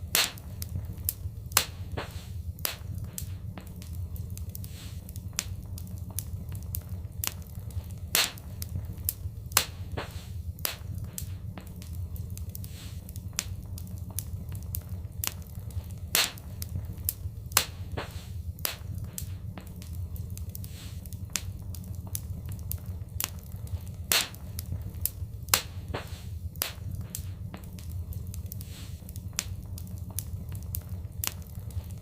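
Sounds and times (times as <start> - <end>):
low fire rumble: 0.0 - 32.0
wood fire crackling and popping: 0.0 - 32.0.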